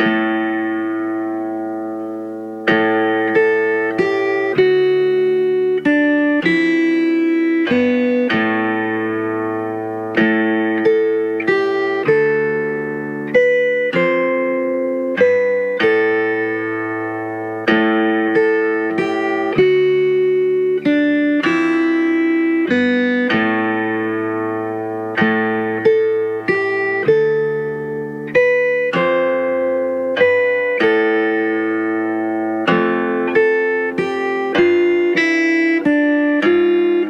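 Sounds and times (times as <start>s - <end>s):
plucked guitar chords: 0.0s - 37.0s.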